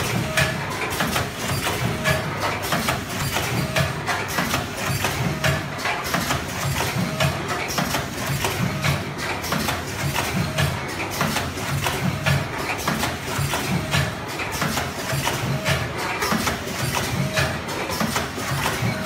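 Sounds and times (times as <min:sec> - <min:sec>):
machine clatter of clicks: 0:00.0 - 0:19.0.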